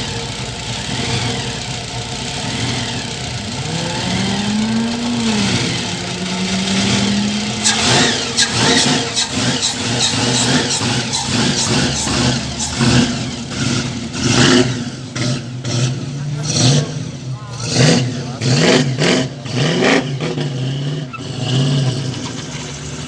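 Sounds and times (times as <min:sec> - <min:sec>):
engine revving with pops: 0:00.0 - 0:23.0.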